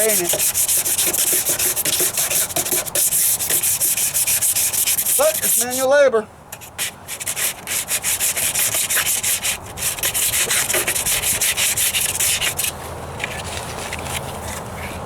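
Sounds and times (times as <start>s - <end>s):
sandpaper rubbing back and forth: 0.0s - 5.9s, 6.6s - 15.0s.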